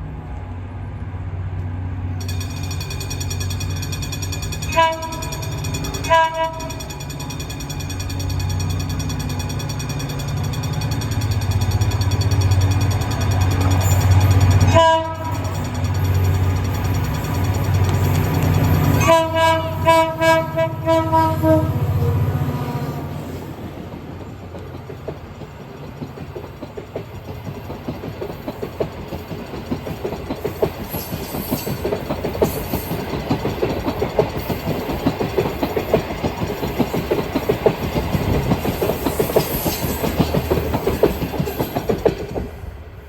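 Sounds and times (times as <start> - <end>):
train wheels clattering over rails: 2.2 - 20.6, 23.8 - 42.8.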